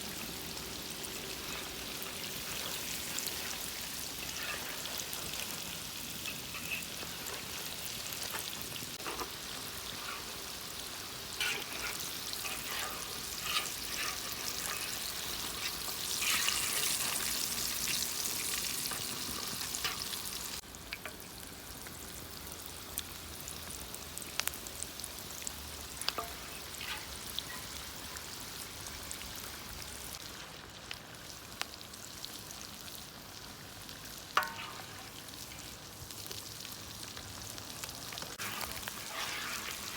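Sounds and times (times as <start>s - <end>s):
chicken frying in hot oil: 0.0s - 39.9s.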